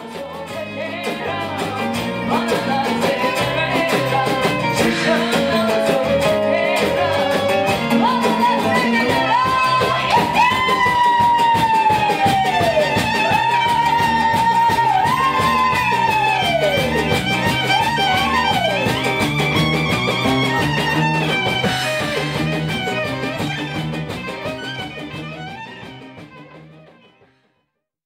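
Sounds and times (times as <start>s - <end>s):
violin melody: 0.0s - 27.4s
rhythmic guitar: 0.0s - 27.5s.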